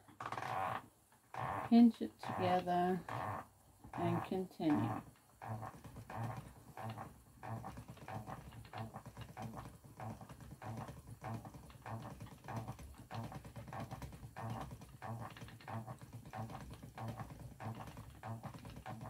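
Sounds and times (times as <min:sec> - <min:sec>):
spinning wheel rhythmic knock: 0:02.2 - 0:19.0.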